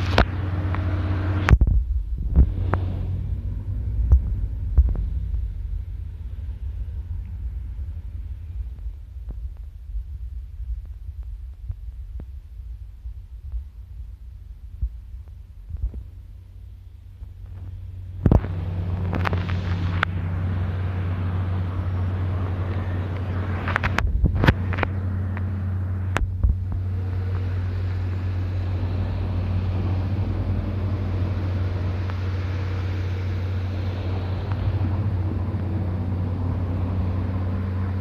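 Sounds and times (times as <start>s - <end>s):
train rumbling past: 0.0s - 14.8s, 16.5s - 38.0s.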